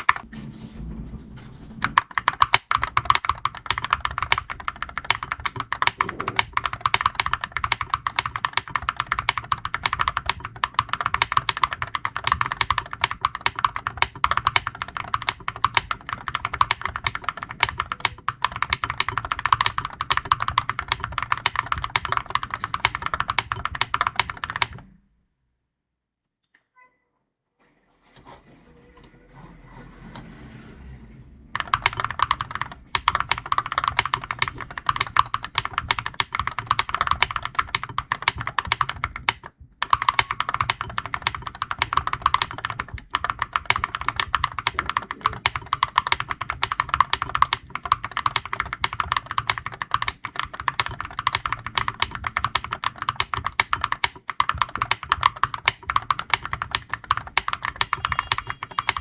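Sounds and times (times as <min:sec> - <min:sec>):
fast keyboard typing: 0:00.0 - 0:00.2, 0:01.8 - 0:24.9, 0:31.6 - 0:59.0.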